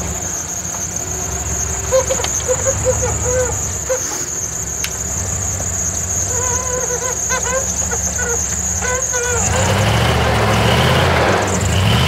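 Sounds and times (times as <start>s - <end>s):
engine running low: 0.0s - 12.0s
suspension squeaks: 0.0s - 12.0s.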